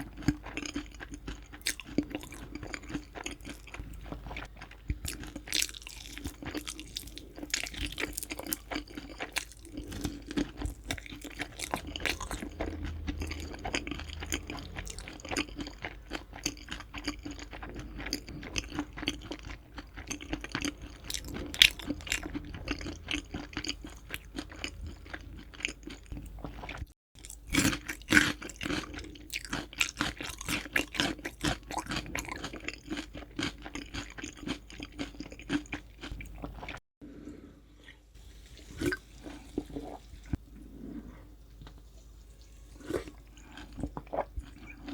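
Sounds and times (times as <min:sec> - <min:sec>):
chewing crispy chicken: 0:00.0 - 0:36.8, 0:37.8 - 0:44.9.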